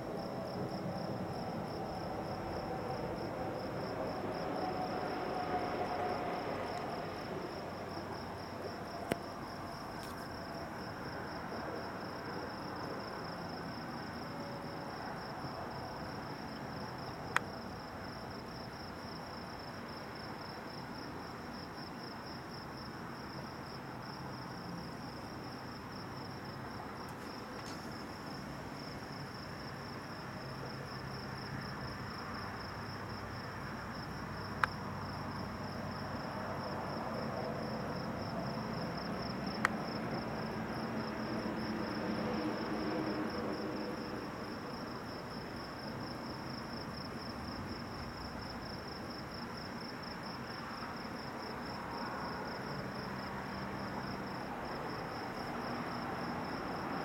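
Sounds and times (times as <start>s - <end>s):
background hiss: 0.0s - 57.0s
crickets chirping: 0.0s - 57.0s.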